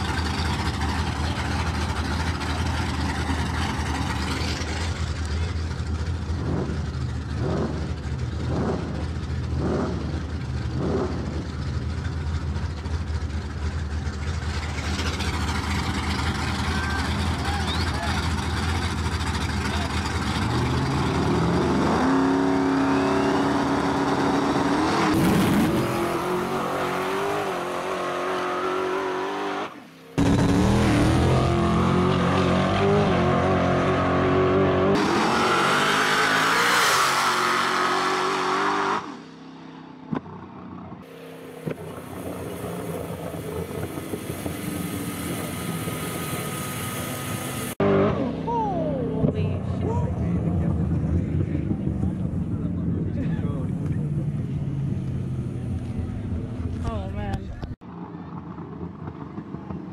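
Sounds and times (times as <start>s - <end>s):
pickup truck engines revving: 0.0s - 59.9s.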